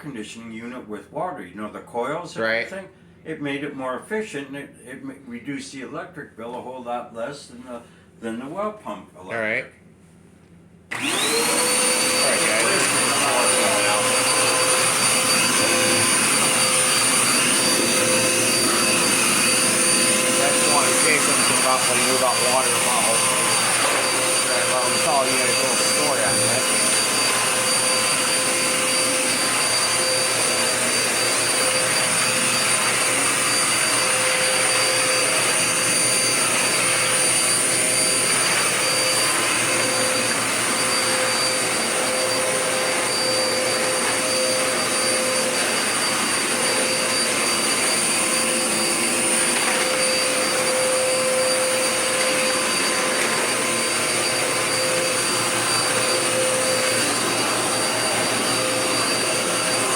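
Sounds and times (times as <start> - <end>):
vacuum cleaner running: 10.9 - 59.9.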